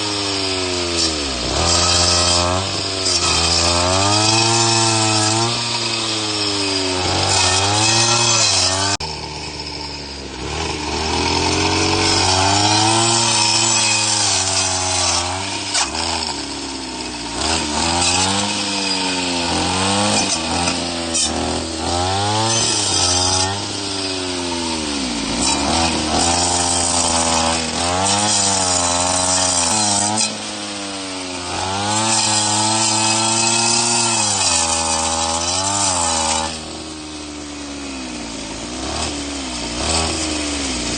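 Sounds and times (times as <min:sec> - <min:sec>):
brush cutter engine running: 0:00.0 - 0:40.9
saw blade cutting: 0:00.0 - 0:40.9.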